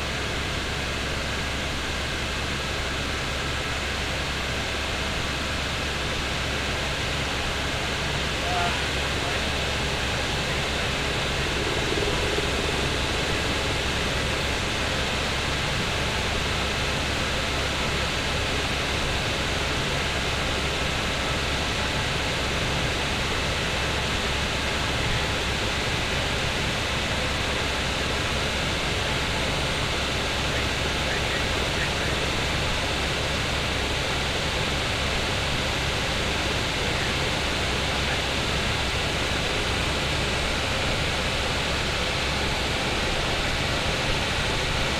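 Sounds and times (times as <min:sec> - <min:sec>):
helicopter cabin noise: 0:04.9 - 0:44.9.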